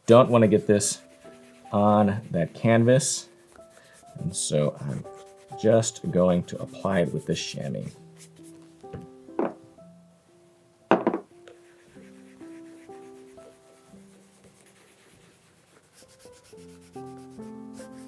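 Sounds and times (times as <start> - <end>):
soft background music: 0.0 - 18.0
cloth rubbing polish into leather: 0.1 - 9.1, 11.5 - 18.0.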